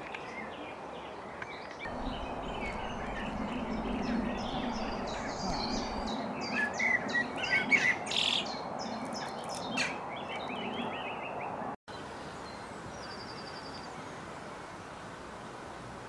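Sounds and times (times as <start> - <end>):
songbirds chirping and trilling: 0.0 - 15.3.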